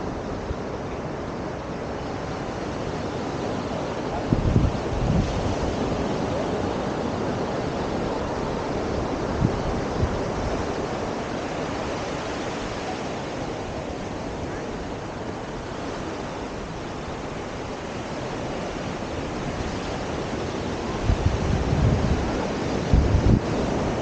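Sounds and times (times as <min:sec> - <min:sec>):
ocean surf on sandy beach: 0:00.0 - 0:24.0
wind rumble on microphone: 0:00.0 - 0:24.0.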